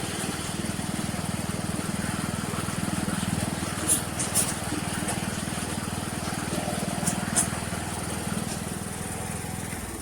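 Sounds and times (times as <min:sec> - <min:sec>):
lawn tractor engine running: 0:00.0 - 0:10.0.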